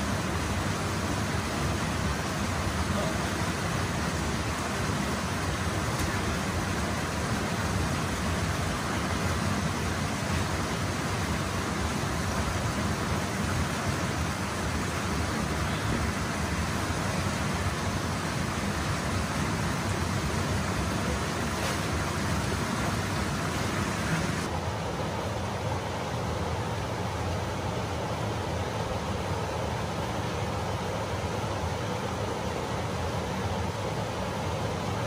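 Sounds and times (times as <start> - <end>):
small waterfall pouring: 0.0 - 35.0.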